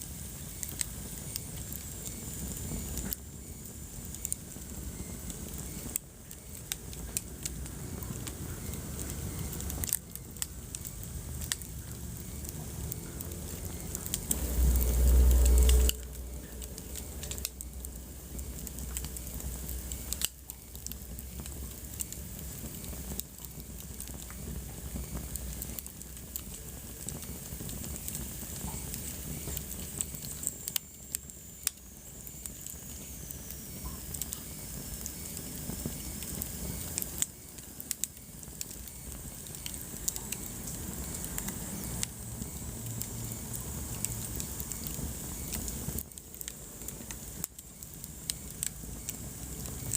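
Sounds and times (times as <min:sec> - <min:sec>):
low rumble of flame: 0:00.0 - 0:49.9
wood fire crackling and popping: 0:00.0 - 0:49.9.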